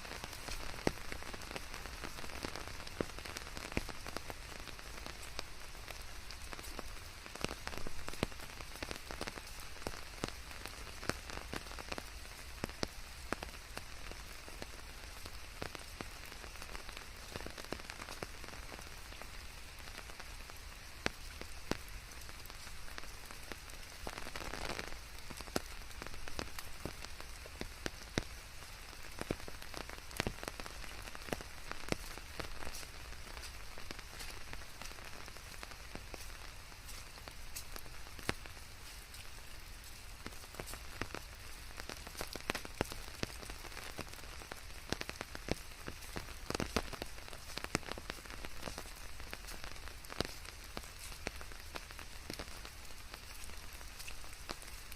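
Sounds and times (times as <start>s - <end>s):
raindrops tapping on surface: 0.0s - 54.9s
steady rain hiss: 0.0s - 54.9s.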